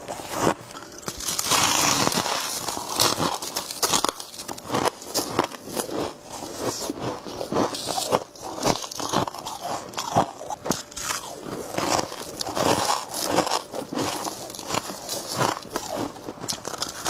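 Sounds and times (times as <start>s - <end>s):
chewing crunchy frost: 0.0s - 17.0s.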